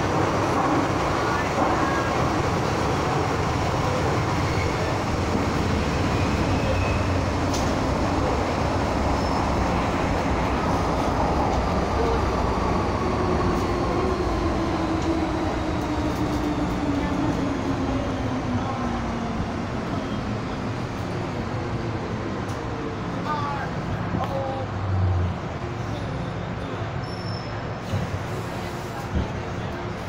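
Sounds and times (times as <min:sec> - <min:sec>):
train running through tunnel: 0:00.0 - 0:30.0.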